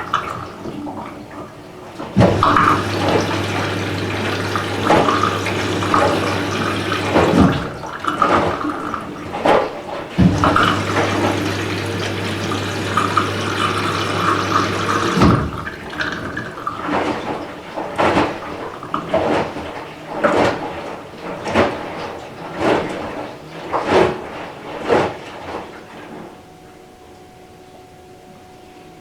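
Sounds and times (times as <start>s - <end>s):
washing machine water intake: 0.0s - 26.9s
water sloshing in drum: 0.0s - 27.0s.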